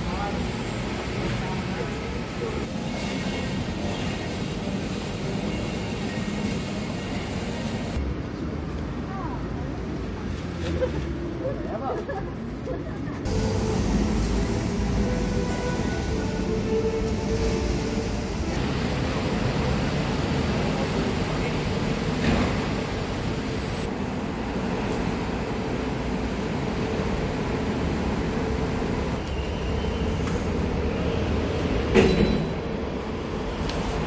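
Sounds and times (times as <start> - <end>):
low traffic rumble: 0.0 - 34.0.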